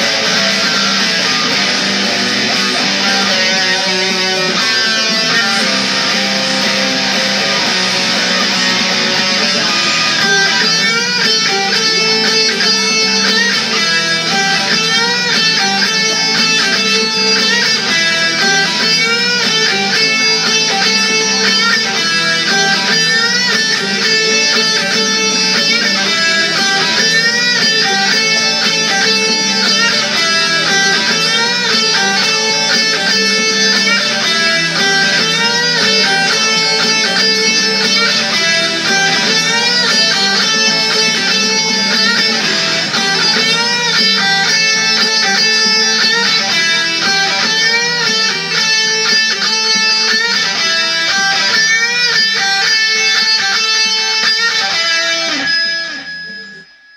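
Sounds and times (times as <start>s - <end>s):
electric guitar rock playing: 0.0s - 56.9s.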